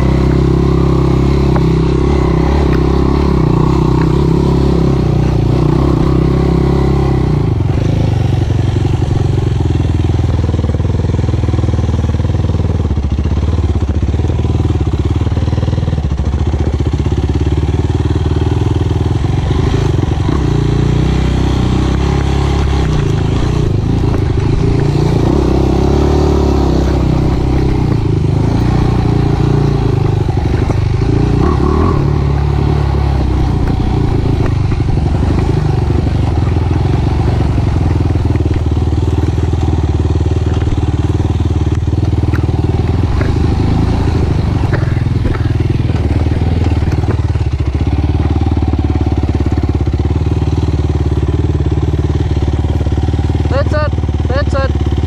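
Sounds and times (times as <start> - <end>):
quad engine running loudly: 0.0 - 55.0.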